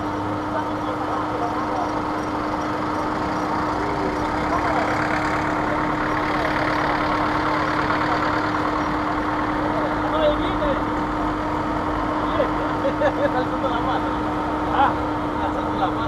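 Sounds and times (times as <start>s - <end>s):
vehicles driving by: 0.0s - 16.0s.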